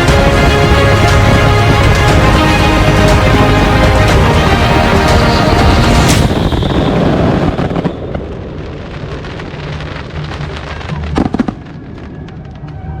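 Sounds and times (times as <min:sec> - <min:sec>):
loud firework bangs: 0:00.0 - 0:12.7
fireworks crackling and popping: 0:00.0 - 0:13.0.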